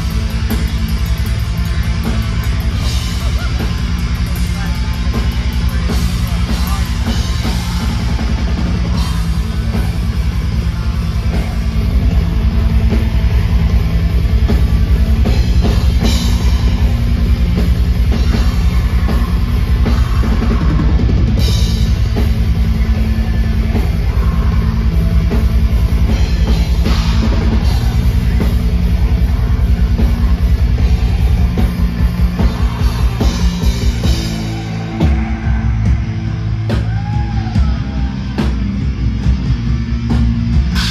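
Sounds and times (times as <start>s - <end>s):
fast drumming with cymbals: 0.0s - 40.9s
live black metal band: 0.0s - 40.9s.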